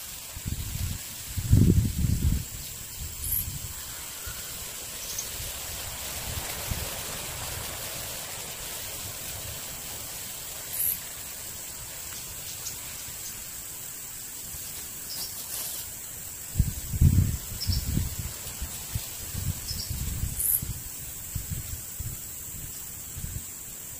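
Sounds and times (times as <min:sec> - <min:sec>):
high insect drone: 0:00.0 - 0:23.9
steady hiss: 0:00.0 - 0:23.9.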